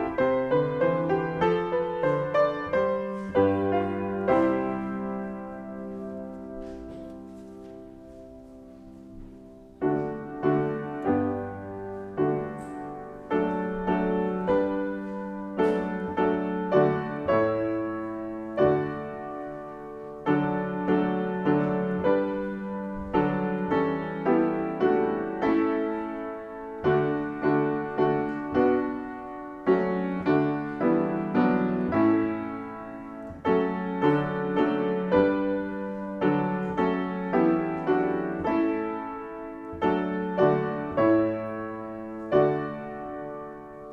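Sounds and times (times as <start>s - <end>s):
slow solo piano piece: 0.0s - 43.9s.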